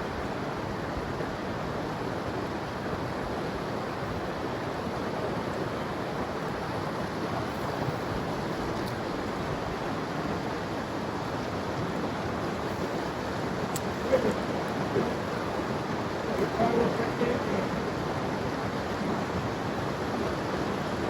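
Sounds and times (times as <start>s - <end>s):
river rushing over rapids: 0.0s - 21.0s.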